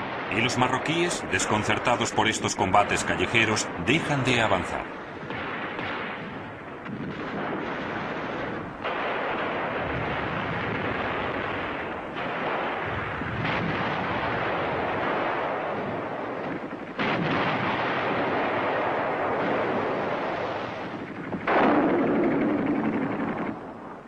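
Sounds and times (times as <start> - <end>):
gunfire: 0.0 - 23.8
explosions: 0.0 - 24.0.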